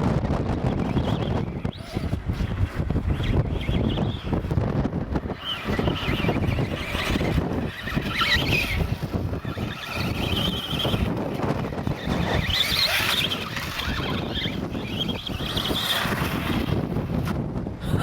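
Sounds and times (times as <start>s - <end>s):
electric motor whine: 0.0s - 17.5s
wind buffeting microphone: 0.0s - 18.0s.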